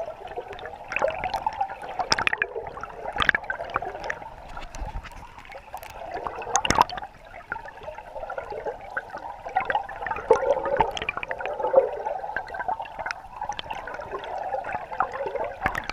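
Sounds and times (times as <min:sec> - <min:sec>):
muffled river water gurgling: 0:00.0 - 0:15.9.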